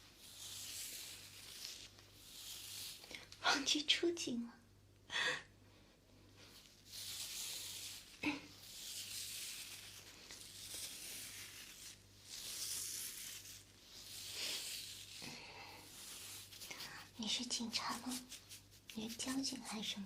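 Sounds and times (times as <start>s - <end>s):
soft scratchy rustling: 0.0s - 4.4s, 5.9s - 20.0s.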